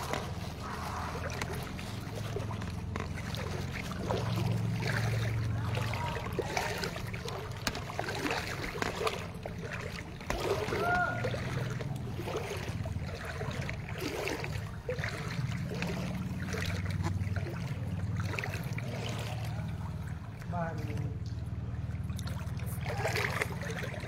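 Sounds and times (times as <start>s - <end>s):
wading through water splashing: 0.0s - 24.0s.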